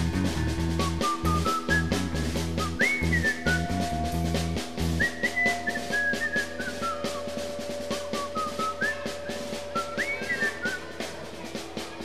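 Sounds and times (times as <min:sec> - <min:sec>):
high whistled melody: 0:00.0 - 0:11.5
fast snare drumming: 0:00.0 - 0:12.0.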